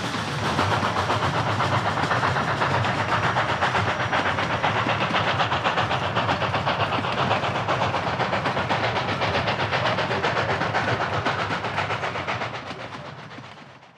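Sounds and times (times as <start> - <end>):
steam hiss: 0.0 - 13.8
steam locomotive chuffing: 0.0 - 13.9.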